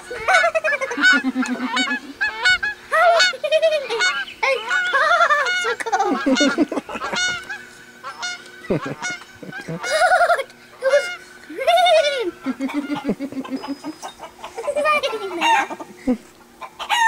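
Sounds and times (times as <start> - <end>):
person imitating bird calls: 0.0 - 16.4.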